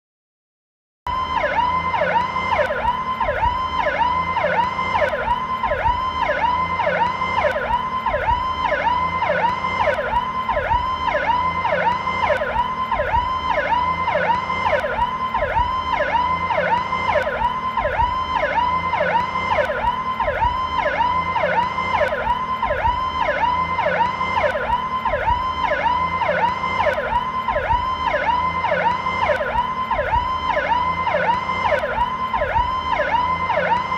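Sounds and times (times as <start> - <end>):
police siren whooping: 1.1 - 33.9.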